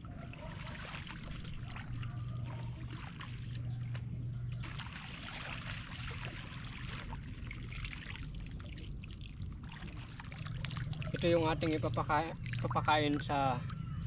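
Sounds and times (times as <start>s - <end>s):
steady low hum: 0.0s - 14.0s
water trickling and splashing: 0.0s - 14.0s.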